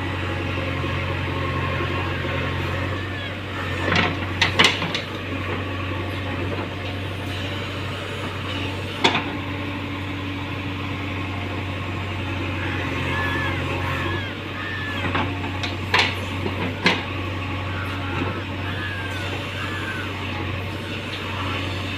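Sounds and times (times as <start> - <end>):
diesel engine droning: 0.0 - 21.9.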